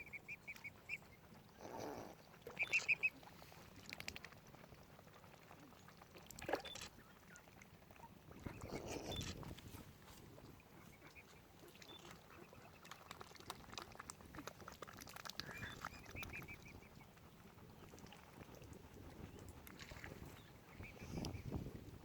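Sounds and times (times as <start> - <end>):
faint waterfowl calls: 0.0 - 4.3, 6.6 - 21.7.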